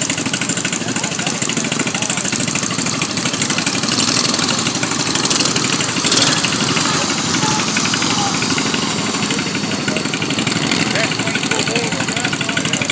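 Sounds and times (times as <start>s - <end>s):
lawn mower engine running: 0.0s - 12.9s.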